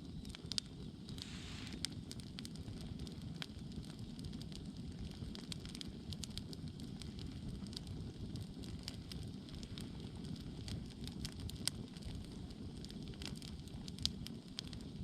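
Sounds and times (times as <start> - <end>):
campfire popping and crackling: 0.0 - 15.0
low steady fire rumble: 0.0 - 15.0.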